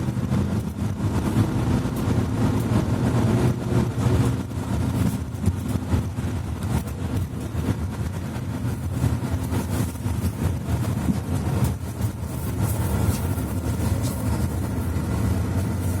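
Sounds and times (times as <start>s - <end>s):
bus diesel engine humming: 0.0s - 16.0s.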